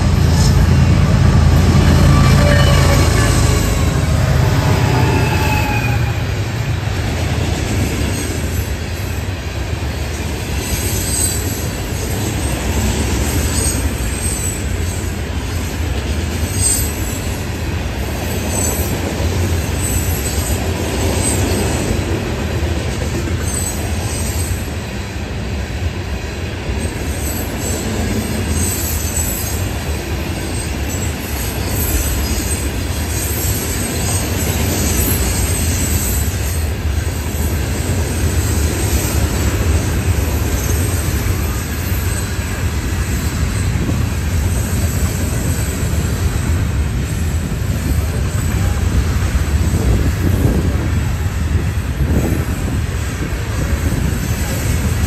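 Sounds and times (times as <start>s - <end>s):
train wheels squealing: 0.0s - 6.7s, 7.8s - 9.3s, 10.1s - 22.1s, 23.0s - 24.9s, 26.7s - 55.0s
freight train rumbling: 0.0s - 55.0s
locomotive passing: 0.0s - 55.0s.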